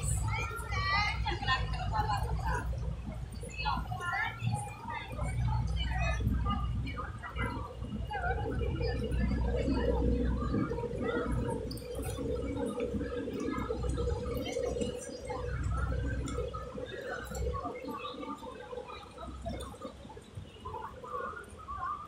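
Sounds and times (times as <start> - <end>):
faint voices of passers-by: 0.0 - 22.0.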